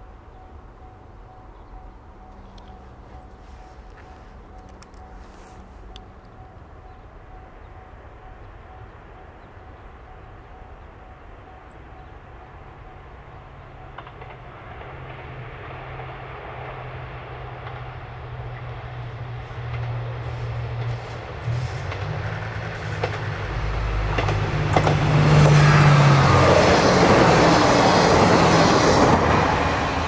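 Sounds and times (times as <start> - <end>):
diesel train engine drone: 0.0 - 30.0
train running rumble: 0.0 - 30.0.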